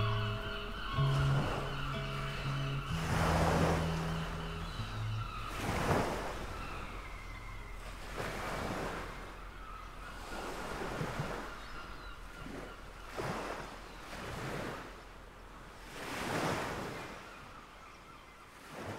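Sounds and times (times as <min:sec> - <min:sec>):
waves washing in: 0:00.0 - 0:17.4.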